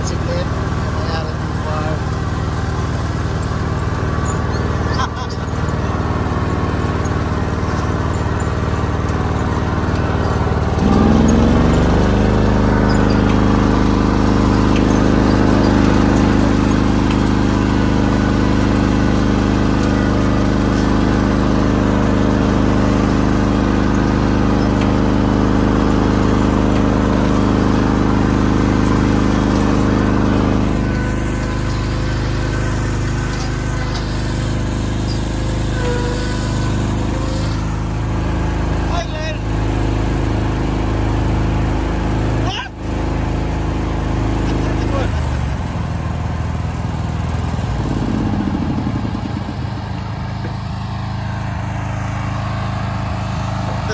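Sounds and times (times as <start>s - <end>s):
ride-on lawn mower engine running: 0.0s - 53.9s.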